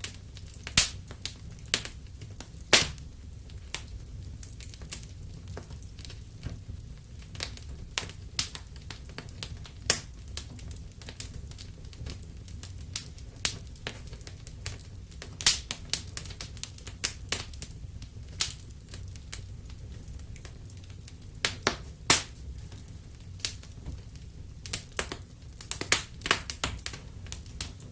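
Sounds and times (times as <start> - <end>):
wood fire crackling and popping: 0.0 - 27.9.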